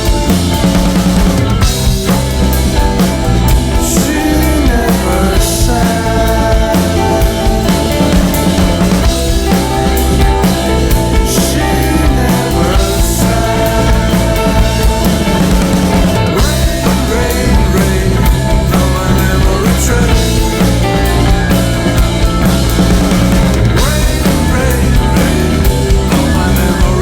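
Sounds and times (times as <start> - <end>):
rock band playing: 0.0 - 27.0.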